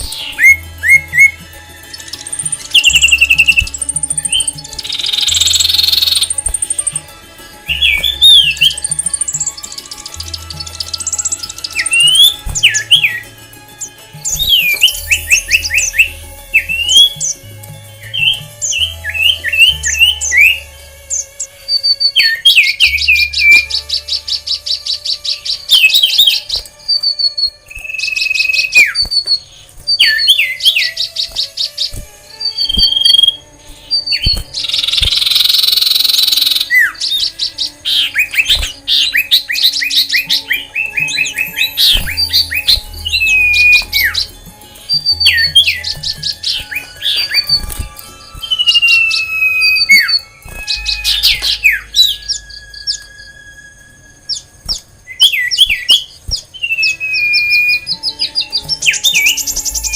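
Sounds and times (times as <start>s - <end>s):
songbirds calling and singing: 0.0s - 59.9s.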